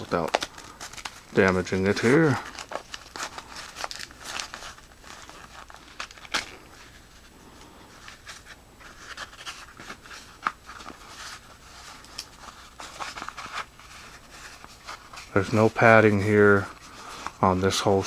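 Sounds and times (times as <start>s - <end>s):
rustling and crinkling of accessories: 0.0s - 18.0s.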